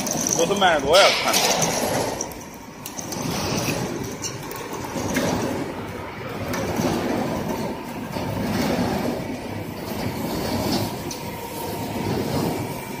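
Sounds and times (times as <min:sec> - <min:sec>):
machinery rumble: 0:00.0 - 0:13.0.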